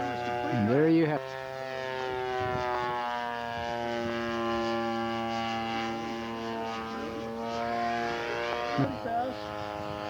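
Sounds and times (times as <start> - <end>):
model plane engine droning: 0.0 - 10.0.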